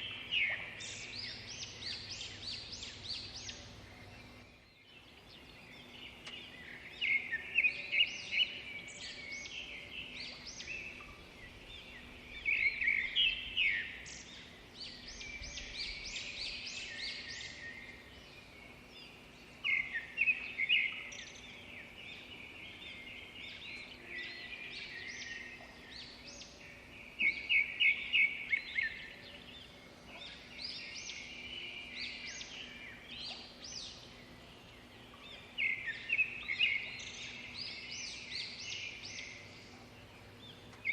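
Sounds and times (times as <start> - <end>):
birds chirping and singing: 0.0 - 40.9
faint steady hum: 0.0 - 40.9.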